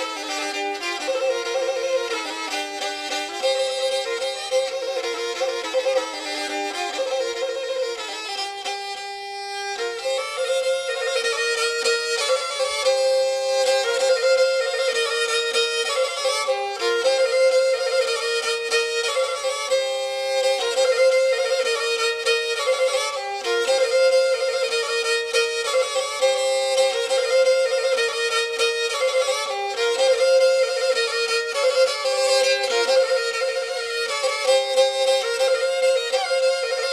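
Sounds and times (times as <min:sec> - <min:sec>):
folk fiddle melody: 0:00.0 - 0:36.9.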